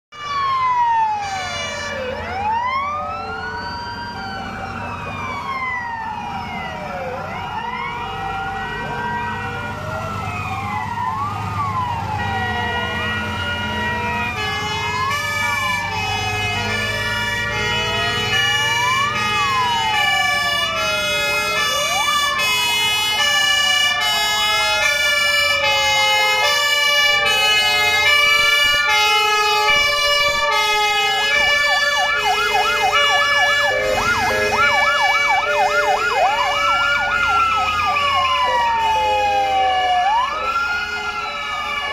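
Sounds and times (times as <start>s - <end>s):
truck engines rumbling: 0.1s - 41.9s
two-tone sirens: 0.1s - 41.9s
wailing sirens: 0.1s - 41.9s.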